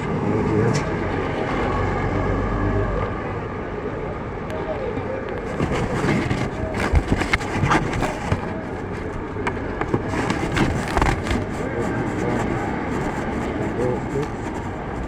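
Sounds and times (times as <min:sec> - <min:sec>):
bus engines passing: 0:00.0 - 0:15.0
traffic rumble: 0:00.0 - 0:15.0.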